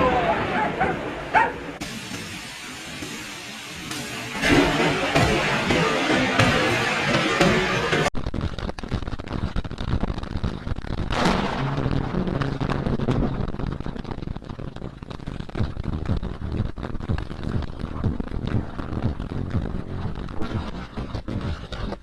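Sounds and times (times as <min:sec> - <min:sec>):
thunder crack and rumble: 0:01.8 - 0:20.6.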